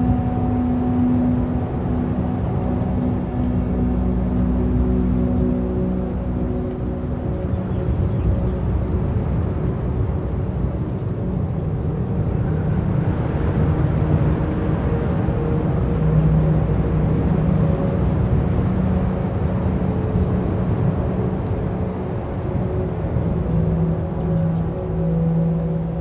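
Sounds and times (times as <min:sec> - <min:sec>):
steady low tones: 0:00.0 - 0:26.0
wind buffeting microphone: 0:00.0 - 0:26.0.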